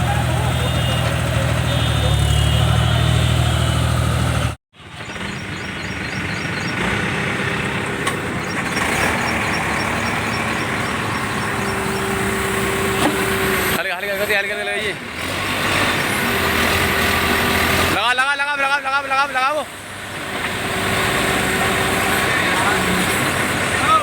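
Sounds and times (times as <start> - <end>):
heavy diesel machinery engines: 0.0 - 24.0.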